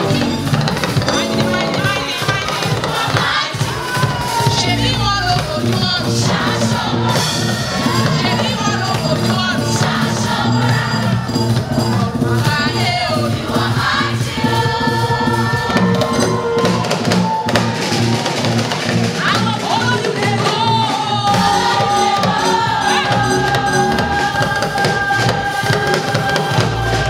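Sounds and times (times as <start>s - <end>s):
women's gospel choir singing: 0.0s - 16.7s, 19.6s - 27.0s
live band with drum kit: 0.0s - 27.0s.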